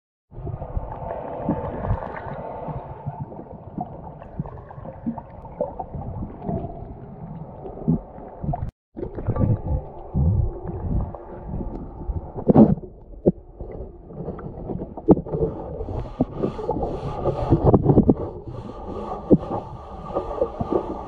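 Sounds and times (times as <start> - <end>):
underwater water gurgling: 0.3 - 21.0.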